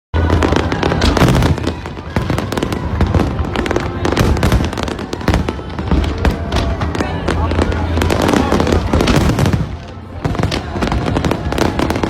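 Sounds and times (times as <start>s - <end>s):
fireworks bangs and crackles: 0.2s - 12.0s.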